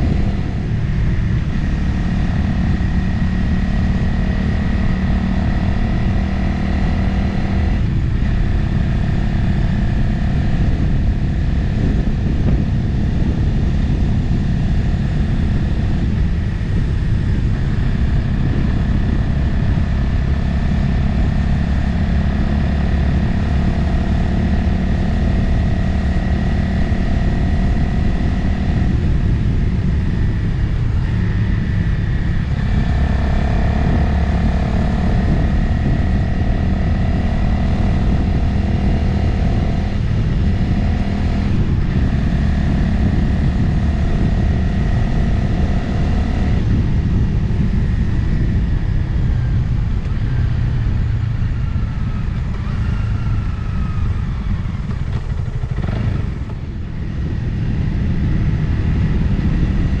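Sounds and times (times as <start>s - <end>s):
motorcycle engine running: 0.0s - 60.0s
wind rushing past microphone: 0.0s - 60.0s.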